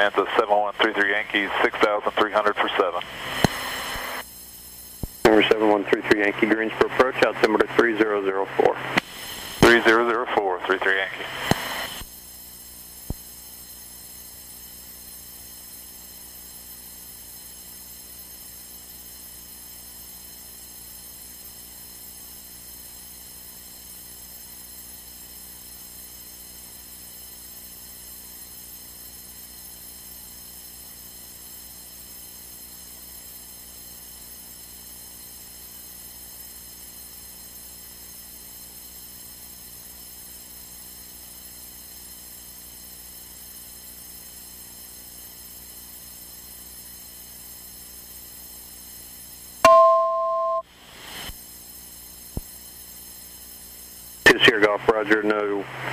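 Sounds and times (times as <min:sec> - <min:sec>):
electrical hum with faint hiss: 0:00.0 - 0:29.6, 0:32.7 - 0:55.9.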